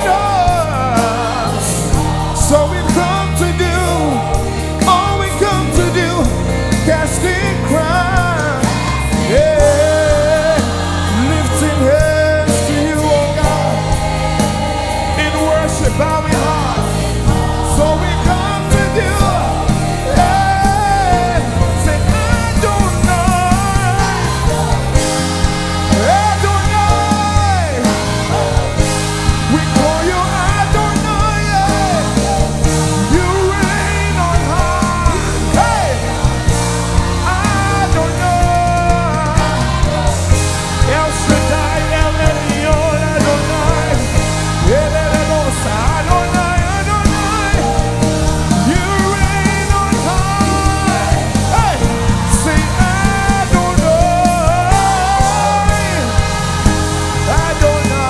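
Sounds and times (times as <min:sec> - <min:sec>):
singer singing melodic lines: 0:00.0 - 0:58.0
steady drum beat: 0:00.0 - 0:58.0
worship band playing: 0:00.0 - 0:58.0.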